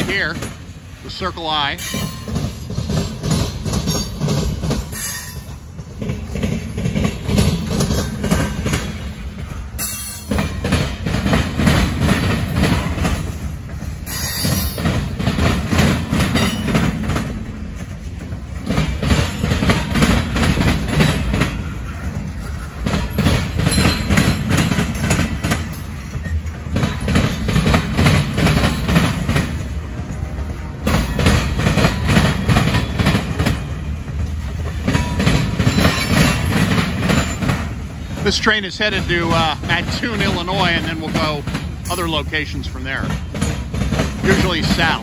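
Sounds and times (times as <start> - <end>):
heavy low train rumble: 0.0 - 45.0
train wheels clattering on rails: 0.0 - 45.0.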